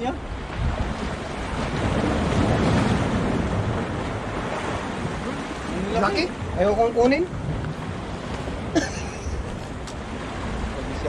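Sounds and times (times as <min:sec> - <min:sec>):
sea waves against rocks: 0:00.0 - 0:11.0
wind buffeting microphone: 0:00.0 - 0:11.0.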